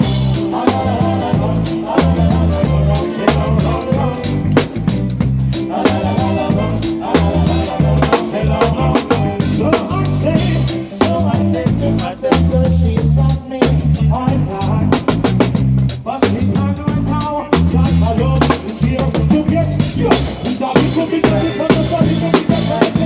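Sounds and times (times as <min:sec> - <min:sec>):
bass line: 0:00.0 - 0:23.0
drum kit with rimshots: 0:00.0 - 0:23.0.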